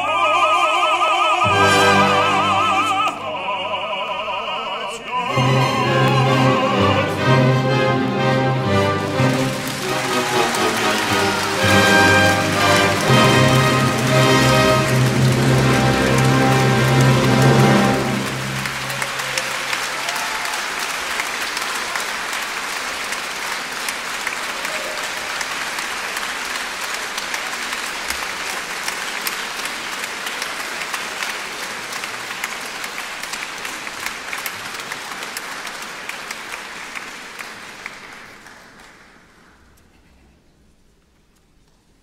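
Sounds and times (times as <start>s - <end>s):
audience applauding: 5.2s - 40.4s.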